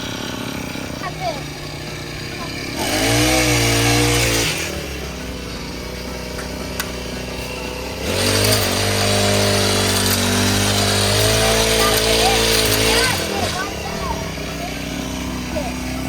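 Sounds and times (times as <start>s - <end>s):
small engine humming: 0.0s - 16.0s.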